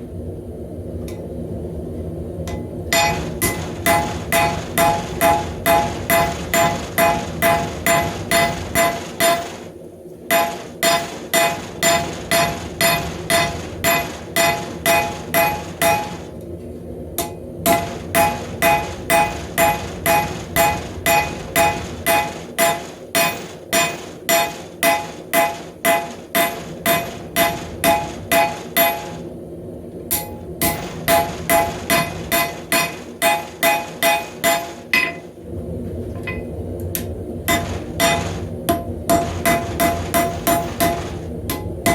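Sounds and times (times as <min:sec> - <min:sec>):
hammer ringing on anvil: 0:02.5 - 0:09.5, 0:10.3 - 0:16.2, 0:17.2 - 0:29.2, 0:30.1 - 0:35.3, 0:37.5 - 0:41.9.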